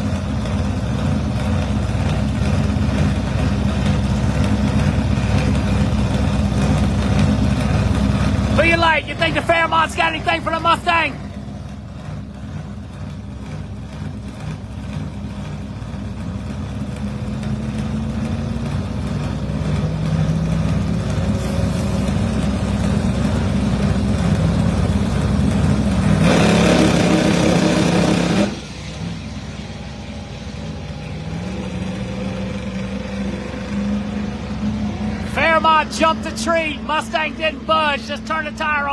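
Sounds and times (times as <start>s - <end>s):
drag race car engines revving: 0.0s - 38.9s.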